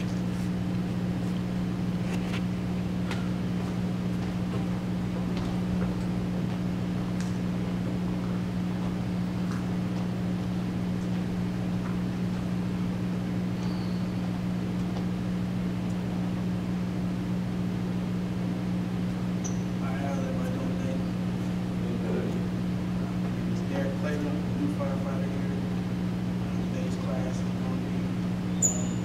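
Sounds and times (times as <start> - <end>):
steady low room hum: 0.0 - 29.0.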